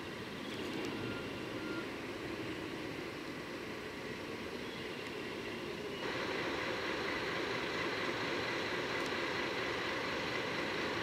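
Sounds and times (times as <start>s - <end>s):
locomotives idling drone: 0.0s - 11.0s.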